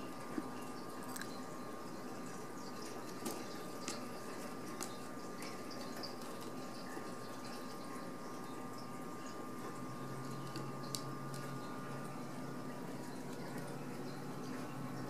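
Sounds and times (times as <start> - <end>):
room hiss with thin hum: 0.0 - 15.0.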